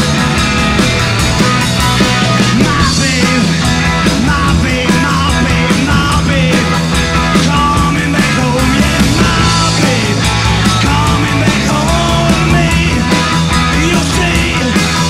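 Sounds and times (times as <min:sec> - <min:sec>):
drums keeping steady beat: 0:00.0 - 0:15.0
rock band playing live: 0:00.0 - 0:15.0.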